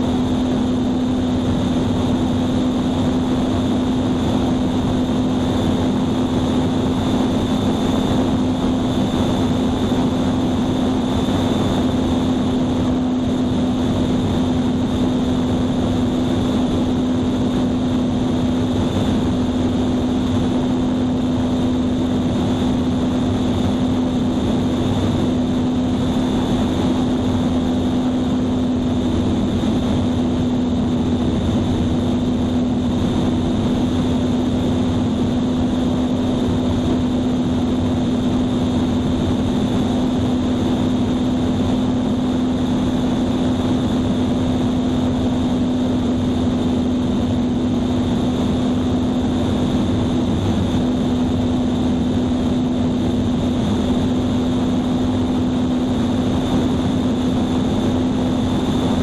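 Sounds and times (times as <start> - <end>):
airplane engine droning: 0.0 - 59.0
wind noise: 0.0 - 59.0.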